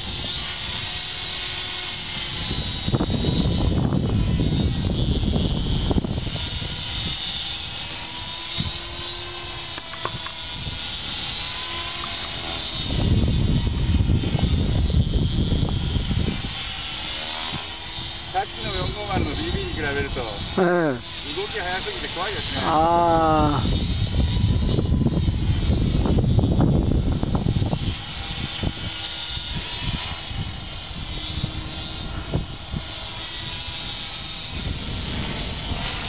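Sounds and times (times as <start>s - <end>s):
electric helicopter motor whine: 0.0s - 36.0s.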